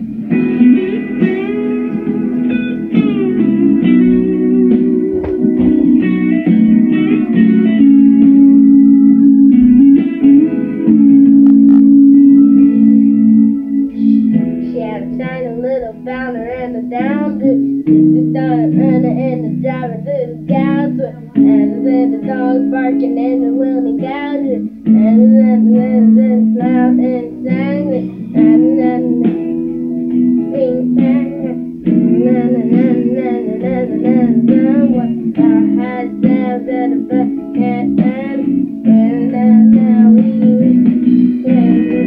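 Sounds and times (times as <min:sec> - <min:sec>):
guitar chords: 0:00.0 - 0:42.0
person singing with vibrato: 0:06.9 - 0:42.0.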